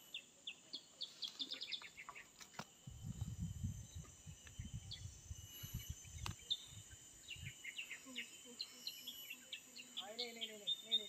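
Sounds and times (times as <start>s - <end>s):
bird chirps: 0.0s - 2.7s, 3.8s - 11.0s
high insect drone: 0.0s - 11.0s.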